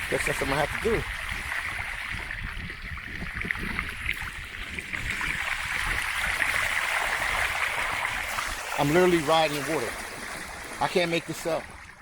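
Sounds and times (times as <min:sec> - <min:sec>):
bicycle wheels splashing through water: 0:00.0 - 0:12.0.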